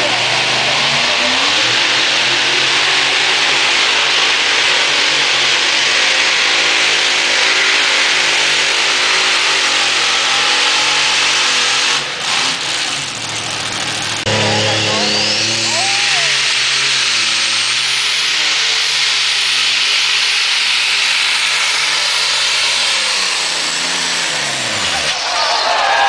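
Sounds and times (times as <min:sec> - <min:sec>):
tractor engine at full throttle: 0:00.0 - 0:26.0.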